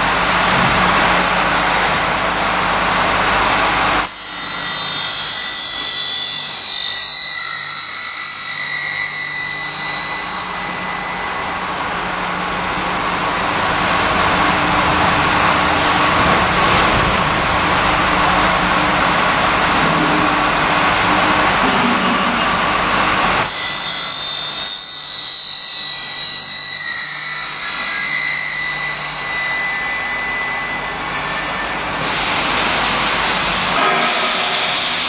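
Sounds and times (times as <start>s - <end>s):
high-pitched ringing whine: 0.0s - 35.0s
milling machine hum: 0.0s - 35.0s.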